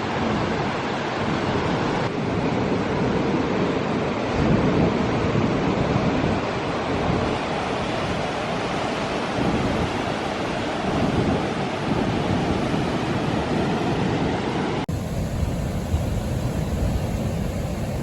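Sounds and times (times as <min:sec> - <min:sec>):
ocean surf: 0:00.0 - 0:18.0
strong wind on microphone: 0:00.0 - 0:18.0.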